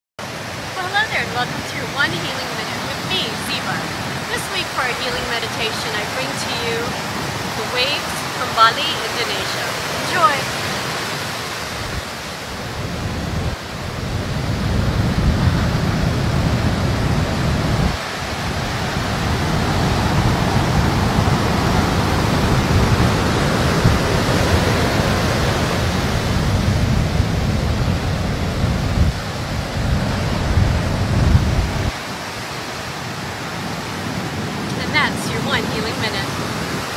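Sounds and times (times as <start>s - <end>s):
ocean surf breaking: 0.2s - 36.9s
wind rumbling on microphone: 0.2s - 36.9s.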